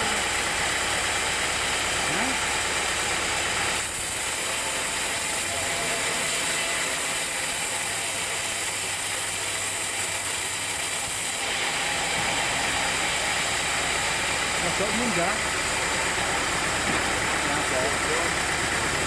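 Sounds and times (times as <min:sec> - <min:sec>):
sawmill machinery hissing: 0:00.0 - 0:19.0.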